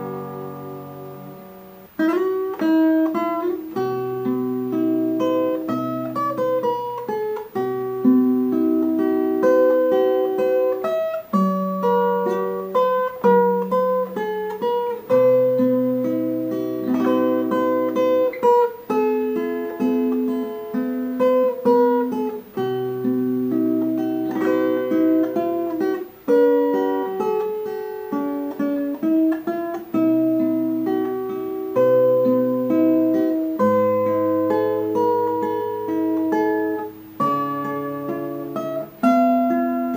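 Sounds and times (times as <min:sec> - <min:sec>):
acoustic guitar music: 0:00.0 - 0:39.9.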